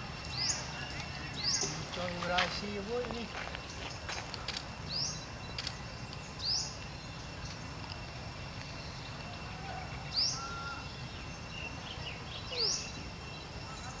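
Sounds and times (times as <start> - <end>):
background hiss: 0.0 - 14.0
bird chirping: 0.0 - 14.0
faint insect drone: 0.0 - 14.0.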